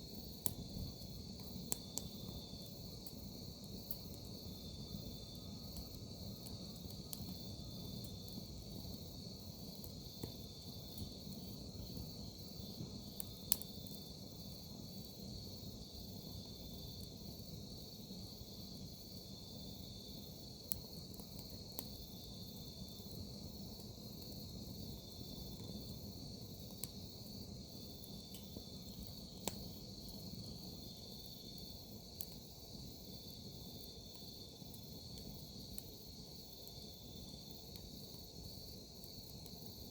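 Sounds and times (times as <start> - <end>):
wood fire crackling and popping: 0.0 - 17.5, 19.4 - 39.9
crickets trilling: 0.0 - 39.9.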